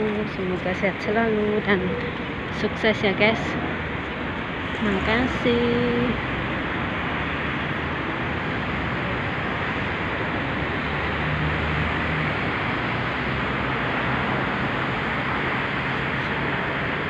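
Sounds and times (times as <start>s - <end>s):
road traffic noise: 0.0s - 17.0s
vehicle engine low hum: 0.0s - 17.0s.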